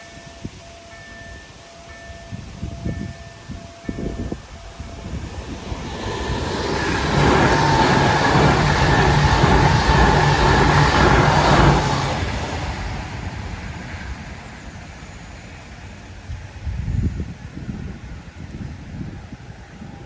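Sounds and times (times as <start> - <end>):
train passing with rail noise: 0.0 - 20.0.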